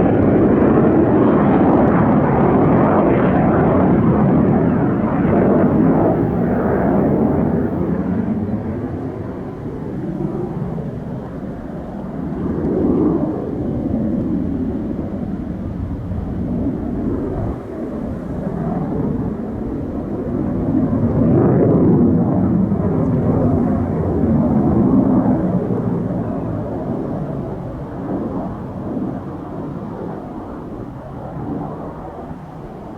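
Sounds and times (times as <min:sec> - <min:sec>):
jet engine roar: 0:00.0 - 0:32.9.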